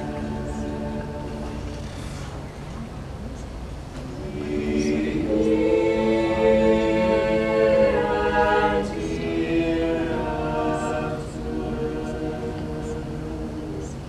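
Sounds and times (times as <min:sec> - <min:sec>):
choir singing held chords: 0:00.0 - 0:02.5, 0:03.9 - 0:14.0.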